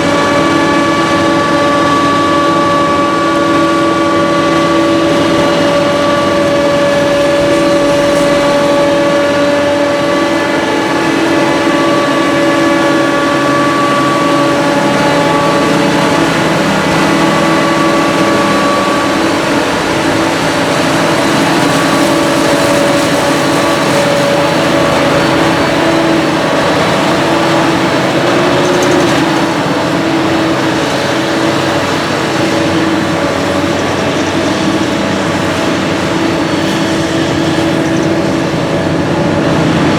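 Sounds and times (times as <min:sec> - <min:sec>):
heavy diesel machinery running: 0:00.0 - 0:39.9
steady whine: 0:00.0 - 0:39.9.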